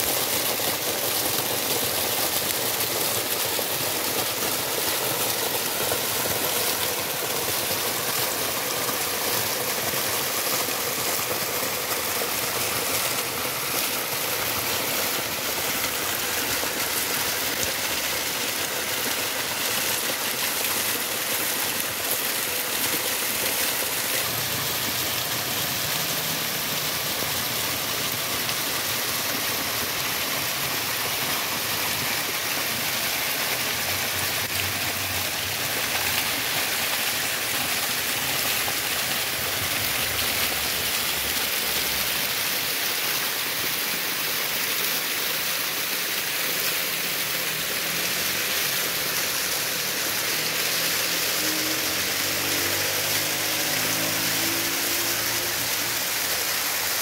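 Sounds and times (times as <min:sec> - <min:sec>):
waterfall splashing: 0:00.0 - 0:57.0.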